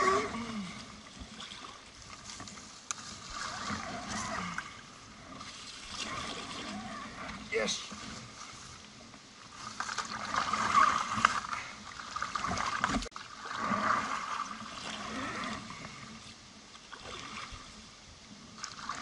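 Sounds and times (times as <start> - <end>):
water splashing around canoe: 0.0 - 19.0.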